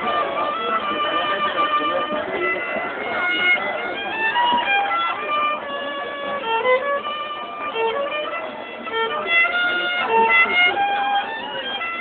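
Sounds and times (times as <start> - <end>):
solo violin melody: 0.0 - 12.0.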